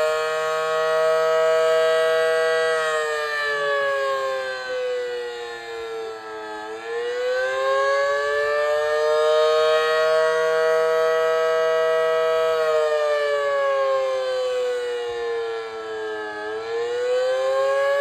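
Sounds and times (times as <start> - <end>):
civil defense siren wailing: 0.0 - 18.0.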